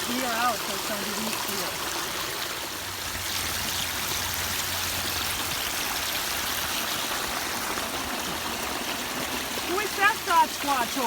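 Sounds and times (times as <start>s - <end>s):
water rushing down rocks: 0.0s - 11.0s.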